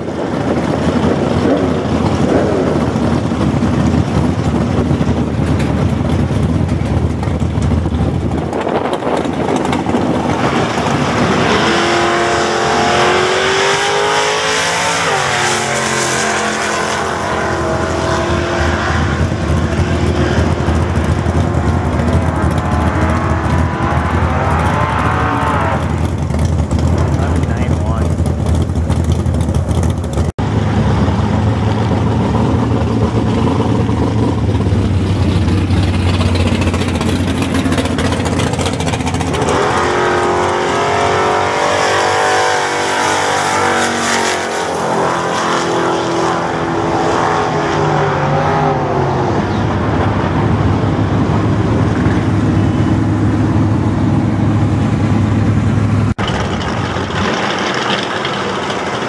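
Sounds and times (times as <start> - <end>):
cars passing at full throttle: 0.0 - 59.0
low engine drone: 0.0 - 59.0.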